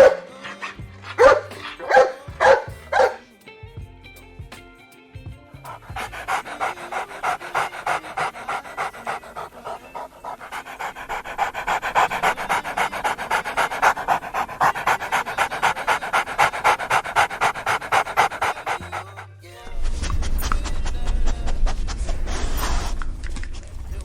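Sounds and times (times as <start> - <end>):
dog panting fast: 0.0 - 3.2, 5.7 - 19.3, 20.0 - 24.0.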